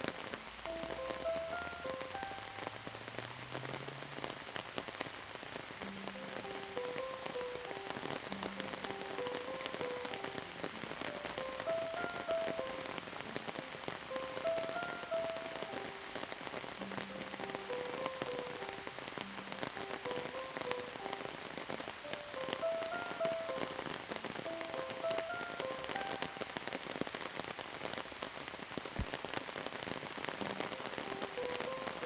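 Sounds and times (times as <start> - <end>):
slow melody of single notes: 0.0 - 27.3, 30.0 - 32.0
steady rain: 0.0 - 32.0.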